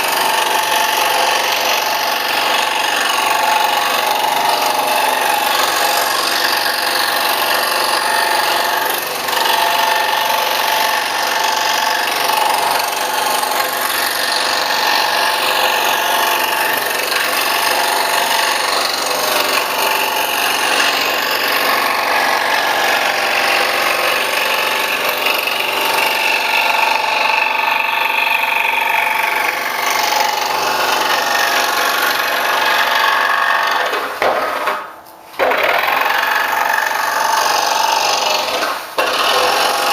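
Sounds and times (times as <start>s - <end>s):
scroll saw cutting wood: 0.0s - 39.9s.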